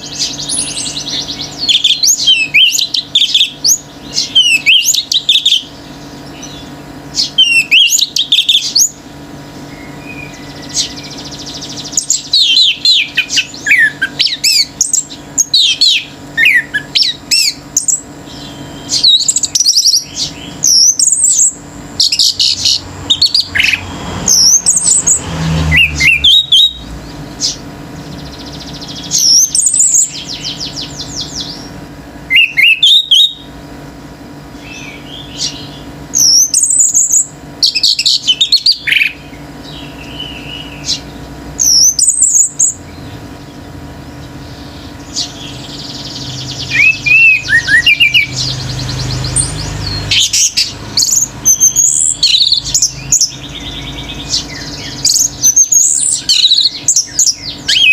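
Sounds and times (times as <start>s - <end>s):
bird singing whistled phrases: 0.0s - 5.7s, 6.3s - 9.0s, 9.7s - 26.8s, 32.3s - 33.5s, 34.6s - 41.0s, 41.6s - 42.8s, 45.1s - 57.9s.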